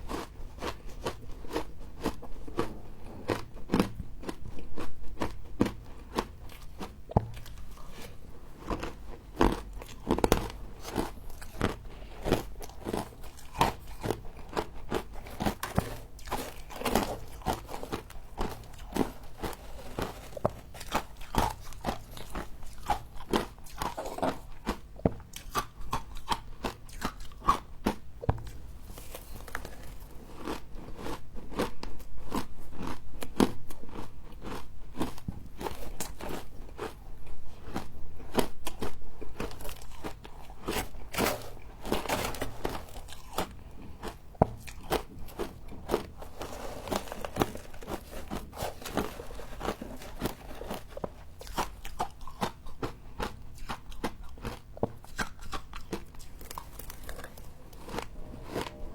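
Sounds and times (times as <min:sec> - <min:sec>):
person chewing crunchy frost: 0:00.0 - 0:58.9.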